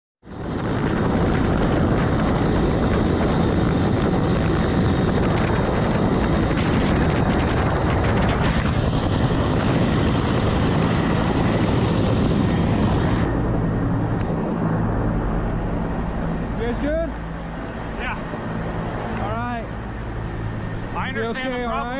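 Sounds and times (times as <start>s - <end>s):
helicopter rotor and turbine: 0.2s - 21.9s.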